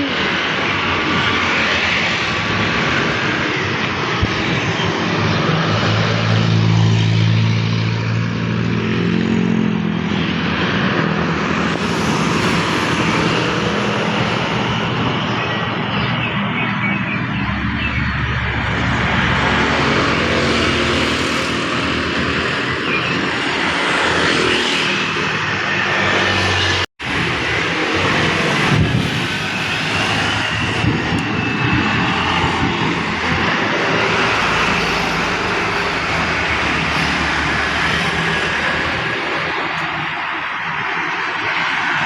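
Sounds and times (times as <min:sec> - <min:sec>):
aircraft engine drone: 0:00.0 - 0:42.0.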